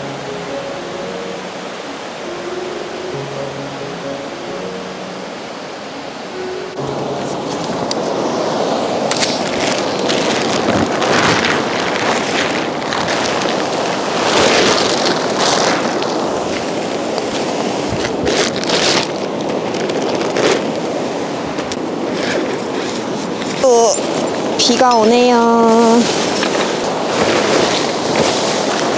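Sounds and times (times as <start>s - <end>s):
stream rushing over stones: 0.0s - 28.9s
wind on microphone: 0.0s - 28.9s.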